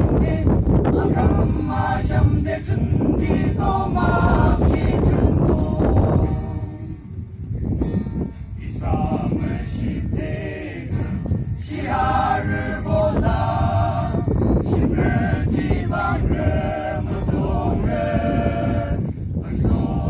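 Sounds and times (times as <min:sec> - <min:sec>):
men singing together: 0:00.0 - 0:07.0, 0:08.6 - 0:20.0
acoustic guitar: 0:00.0 - 0:20.0.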